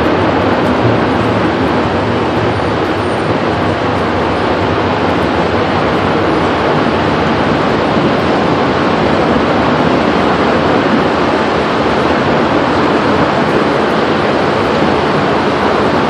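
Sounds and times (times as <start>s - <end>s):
tornado roaring: 0.0s - 16.0s.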